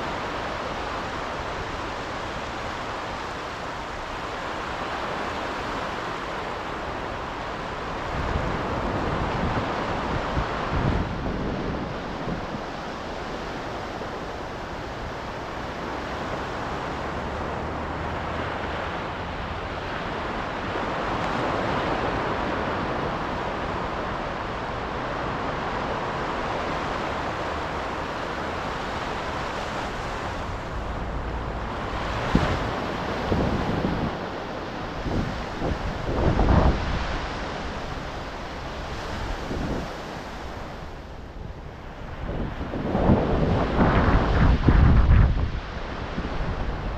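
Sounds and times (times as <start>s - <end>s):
ocean waves breaking: 0.0s - 46.9s
wind buffeting microphone: 0.0s - 46.9s.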